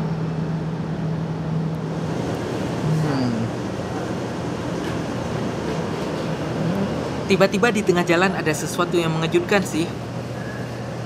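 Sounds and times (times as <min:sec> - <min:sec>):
low steady hum: 0:00.0 - 0:11.0
road traffic noise: 0:00.0 - 0:11.0.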